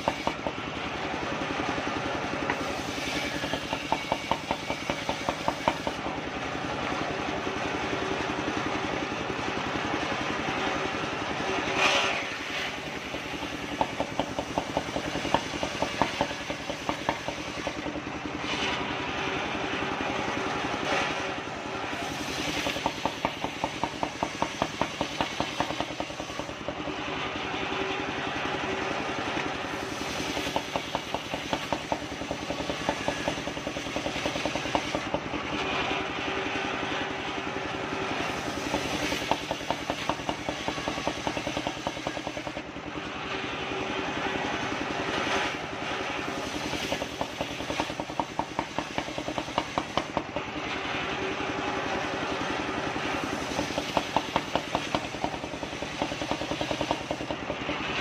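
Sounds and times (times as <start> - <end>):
sawmill engine drone: 0.0 - 58.0.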